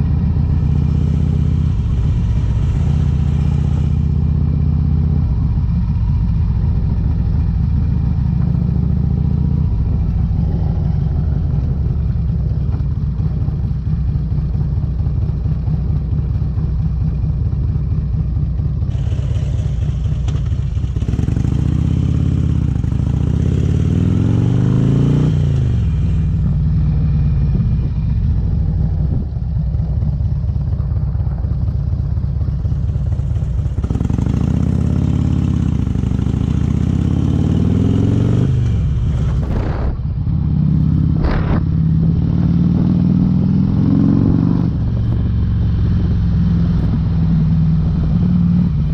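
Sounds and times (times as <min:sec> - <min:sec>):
motorcycle engine riding: 0:00.0 - 0:48.9.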